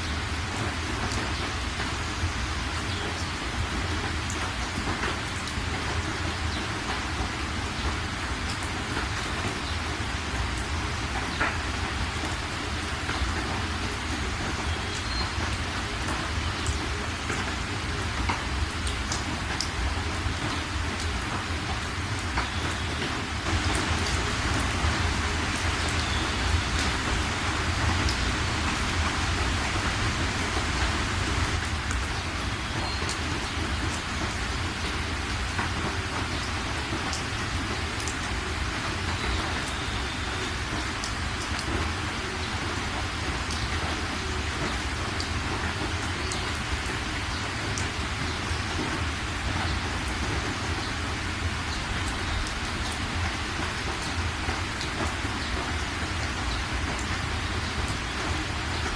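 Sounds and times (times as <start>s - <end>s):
raindrops ticking close by: 0.0s - 58.9s
steady rain falling: 0.0s - 58.9s.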